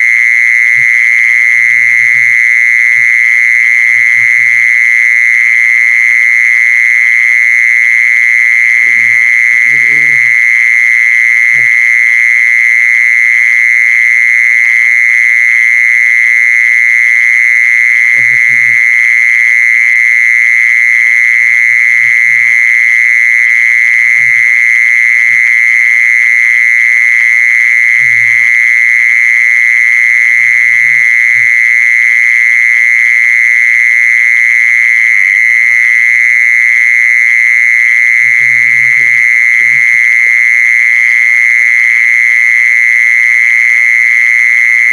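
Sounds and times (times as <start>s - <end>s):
insect high-pitched trill: 0.0s - 44.9s.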